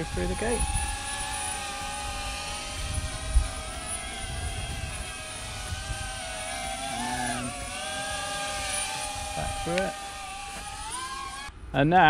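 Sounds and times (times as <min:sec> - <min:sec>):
drone motors whining: 0:00.0 - 0:11.7.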